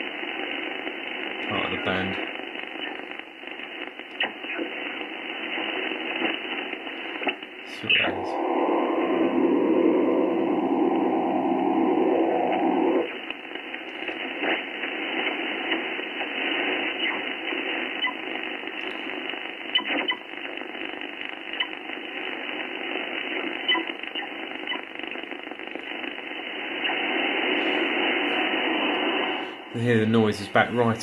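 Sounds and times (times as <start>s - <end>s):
hiss of radio band noise: 0.0s - 31.0s.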